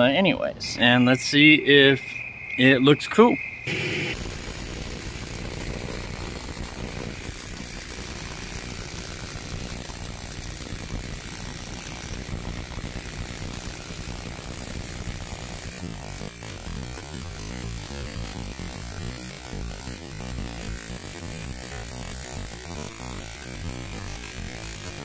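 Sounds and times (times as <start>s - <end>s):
tesla coil arcs buzzing: 3.5s - 25.0s.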